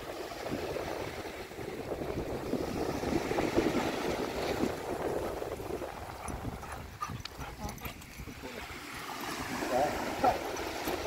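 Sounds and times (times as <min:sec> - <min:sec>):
small waves breaking on beach: 0:00.0 - 0:11.0
wind buffeting microphone: 0:00.0 - 0:11.0.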